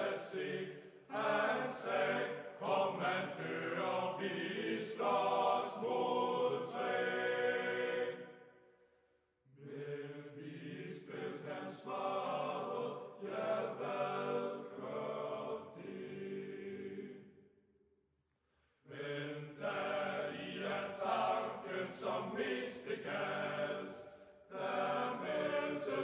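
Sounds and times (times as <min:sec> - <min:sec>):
choir singing: 0:00.0 - 0:08.5, 0:09.6 - 0:17.4, 0:18.9 - 0:26.0.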